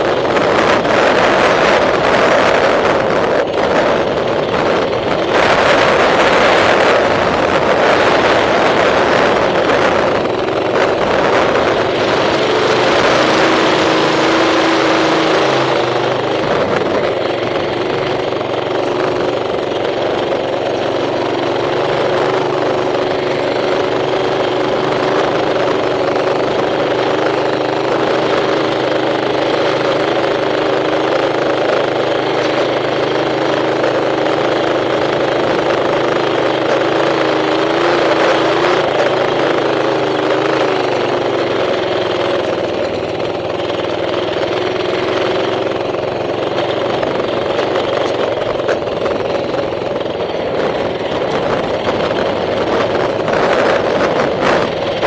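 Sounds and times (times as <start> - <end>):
mini bike engine running: 0.0 - 55.0
wind buffeting microphone: 0.0 - 55.0.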